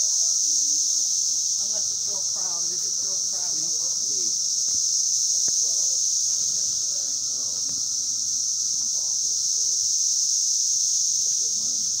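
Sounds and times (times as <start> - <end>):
cicadas droning in chorus: 0.0 - 12.0.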